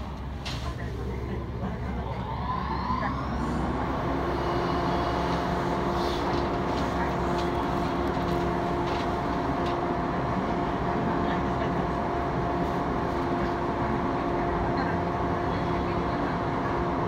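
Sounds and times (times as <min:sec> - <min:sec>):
train motor hum: 0:00.0 - 0:17.0
wheels rumbling on rail: 0:03.0 - 0:17.0.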